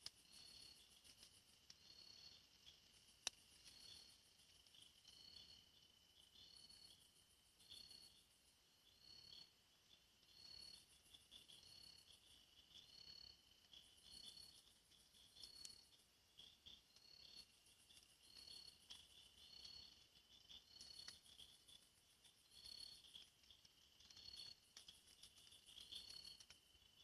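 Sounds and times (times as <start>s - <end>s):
insect chirps and buzz: 0.0s - 27.0s
pulsed insect trills: 0.0s - 27.0s.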